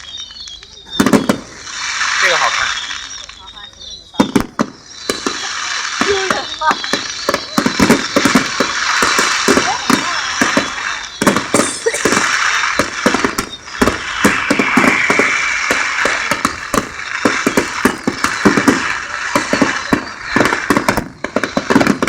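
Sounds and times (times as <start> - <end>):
continuous fizzing crackle: 0.0 - 22.0
fireworks bangs and crackles: 0.0 - 22.0.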